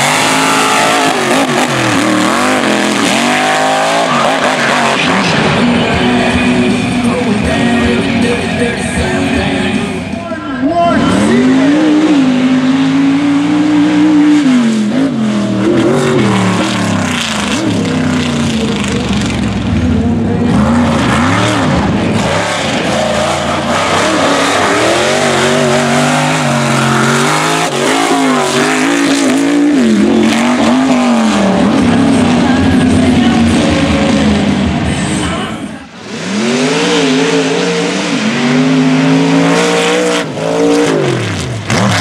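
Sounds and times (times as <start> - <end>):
truck engines revving hard: 0.0 - 42.0.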